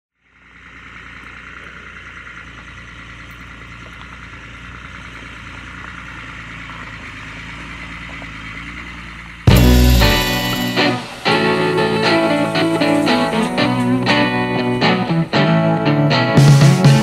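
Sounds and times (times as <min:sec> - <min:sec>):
truck diesel engine running: 0:00.2 - 0:17.0.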